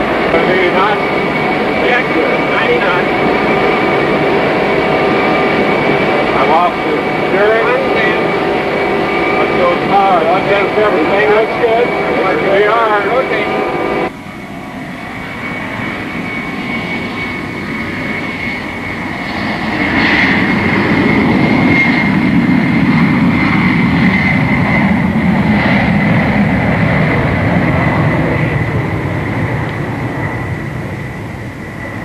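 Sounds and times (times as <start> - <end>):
jet engines roaring with whine: 0.0 - 32.0.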